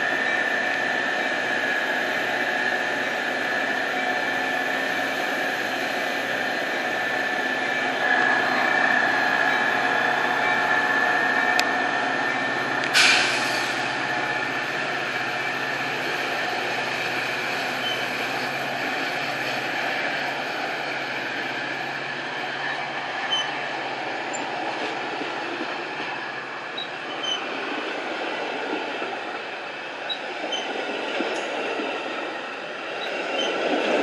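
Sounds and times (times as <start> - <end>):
high steady whine: 0.0 - 27.6
train mechanical hum: 0.0 - 34.0.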